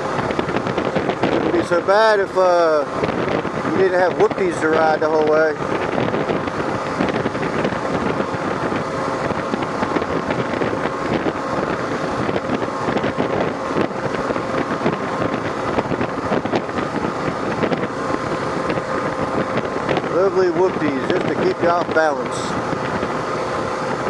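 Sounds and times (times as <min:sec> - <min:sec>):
motorcycle engine hum: 0:00.0 - 0:24.0
wind rushing over microphone: 0:00.0 - 0:24.0.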